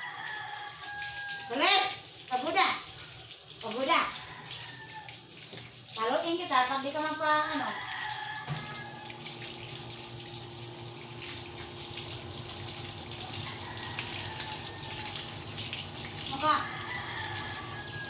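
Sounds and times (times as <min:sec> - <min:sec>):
water splashing from hose: 0:00.0 - 0:18.0.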